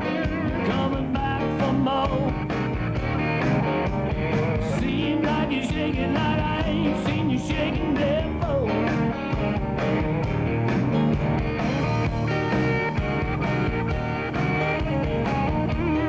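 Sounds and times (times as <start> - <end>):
dance beat band music: 0.0 - 16.0.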